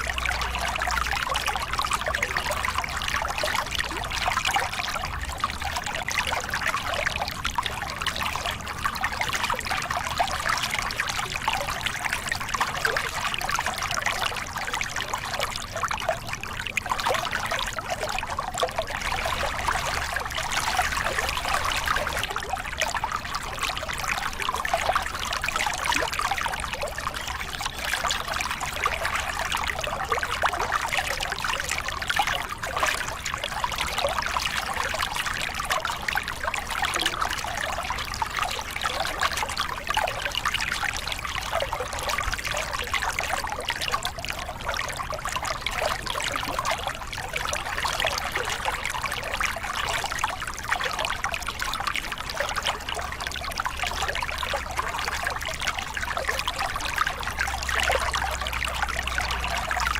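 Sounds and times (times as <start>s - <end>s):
water splashing over rocks: 0.0s - 59.9s.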